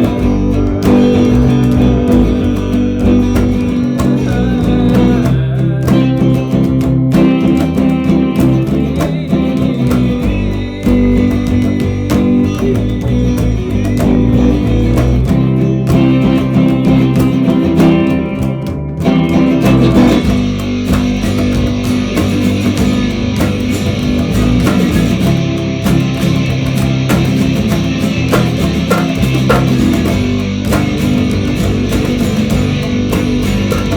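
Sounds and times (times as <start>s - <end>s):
bass guitar: 0.0s - 33.9s
electric guitar: 0.0s - 33.9s.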